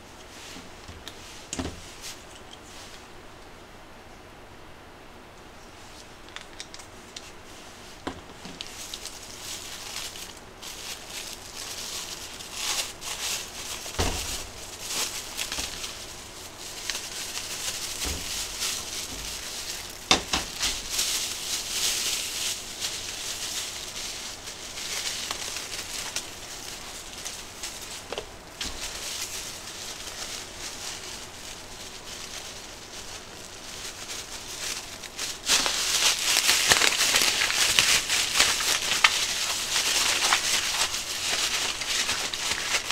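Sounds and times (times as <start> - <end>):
plastic bag crinkling: 6.3 - 42.9.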